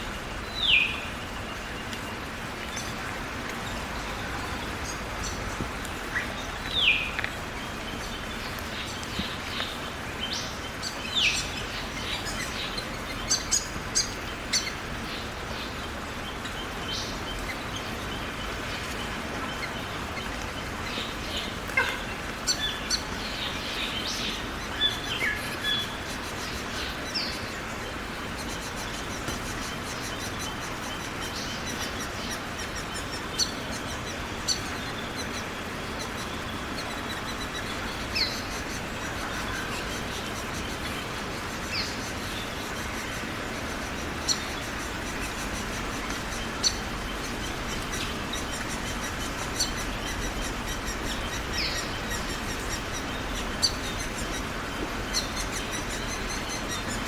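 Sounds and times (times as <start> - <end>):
steady rain: 0.0 - 57.0
bird chirping: 3.6 - 57.0.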